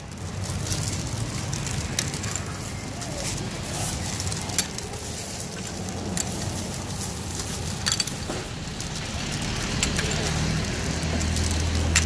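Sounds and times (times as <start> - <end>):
plastic bag crinkling: 0.0 - 12.0
plastic cups clicking: 0.2 - 12.0.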